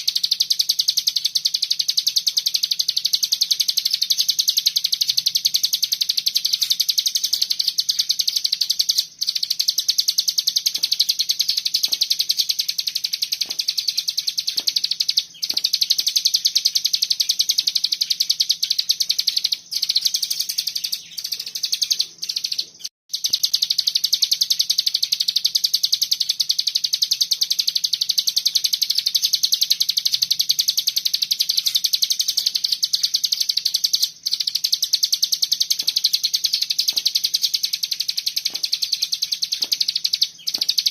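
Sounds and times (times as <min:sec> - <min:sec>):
bird singing fast high trill: 0:00.0 - 0:40.9.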